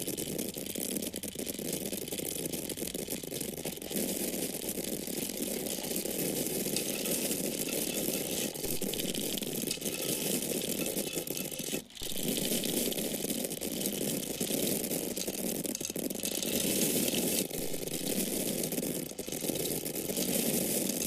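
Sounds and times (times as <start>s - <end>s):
dry corn kernels pouring: 0.0s - 21.0s.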